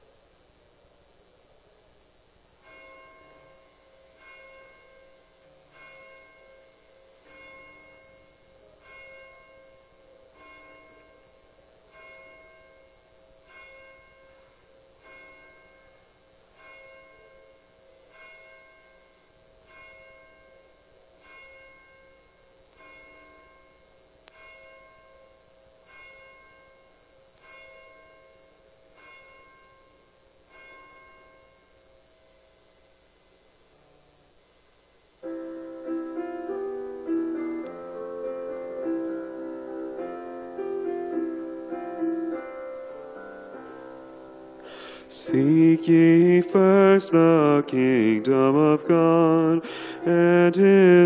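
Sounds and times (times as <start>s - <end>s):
church bell tolling: 2.6s - 32.1s, 35.2s - 51.0s.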